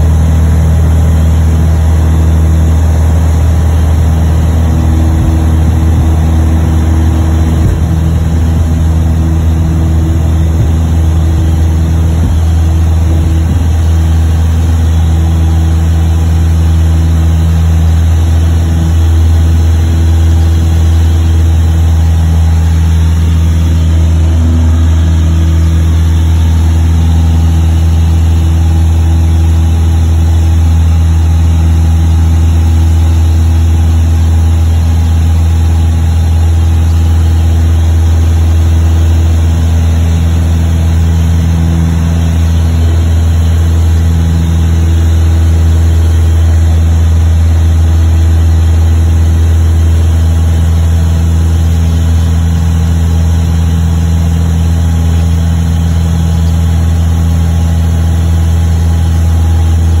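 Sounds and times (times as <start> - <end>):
propeller plane engine droning: 0.0 - 60.0.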